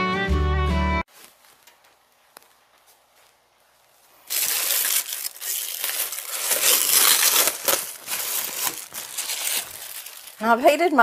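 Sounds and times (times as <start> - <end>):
plastic film crinkling: 1.1 - 11.0.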